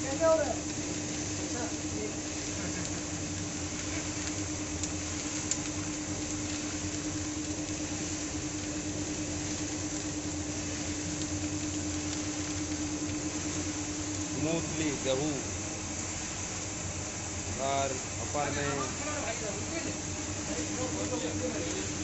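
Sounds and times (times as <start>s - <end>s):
grains pouring down chute: 0.0s - 22.0s
roasting machine humming: 0.0s - 22.0s.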